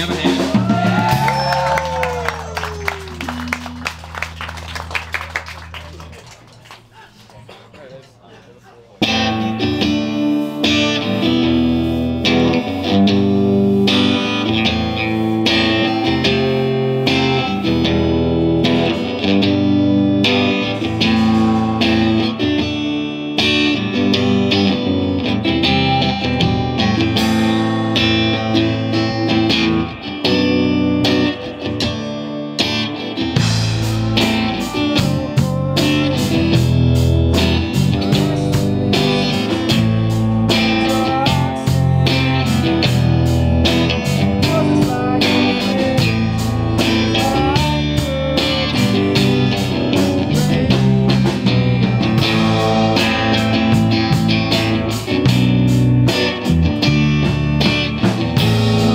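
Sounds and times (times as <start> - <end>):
live rock band playing: 0.0 - 6.4, 9.0 - 58.9
electric guitar: 0.0 - 6.9, 9.0 - 58.9.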